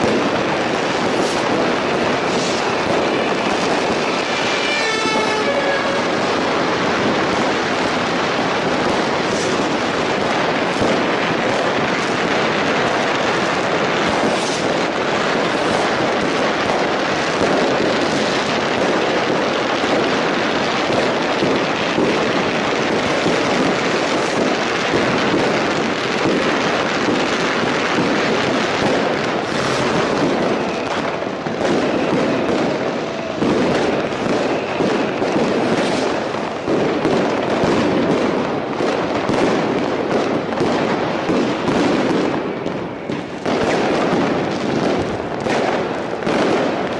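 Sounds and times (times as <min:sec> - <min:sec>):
fireworks crackling: 0:00.0 - 0:46.9
sharp firework bangs: 0:00.0 - 0:46.9.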